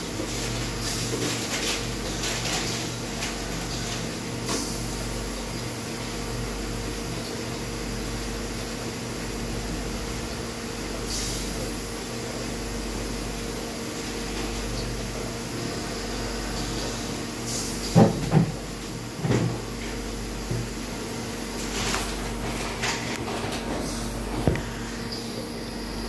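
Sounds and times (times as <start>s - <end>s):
steam sterilizer humming: 0.0s - 26.0s.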